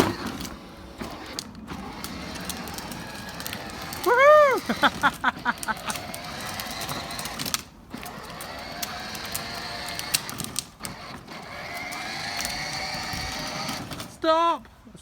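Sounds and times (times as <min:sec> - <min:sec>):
toy car motors whining: 0:00.0 - 0:14.4.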